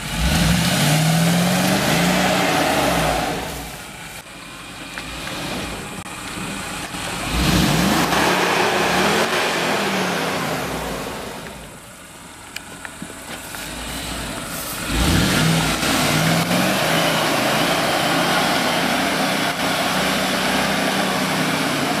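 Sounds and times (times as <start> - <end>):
engine revving: 0.0 - 4.2, 4.9 - 11.8, 13.5 - 22.0.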